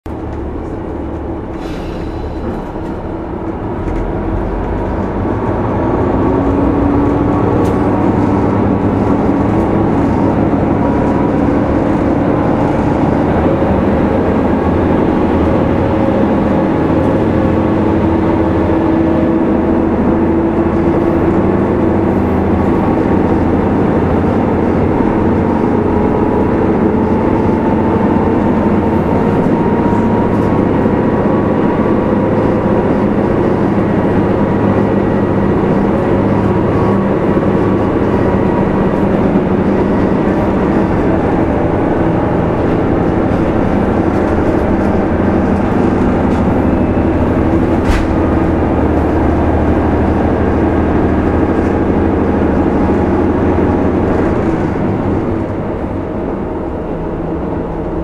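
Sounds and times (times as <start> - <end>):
diesel railcar engine accelerating: 0.0 - 58.0.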